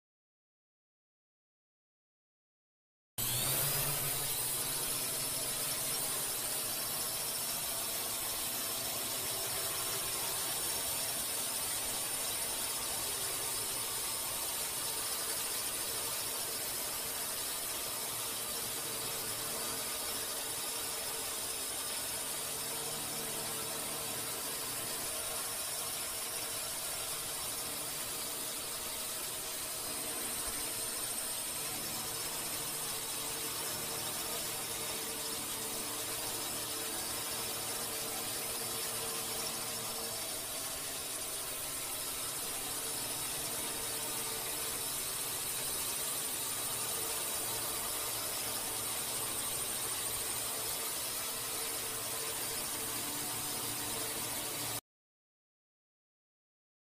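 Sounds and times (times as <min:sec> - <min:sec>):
thin high-pitched whine: 0:03.2 - 0:54.8.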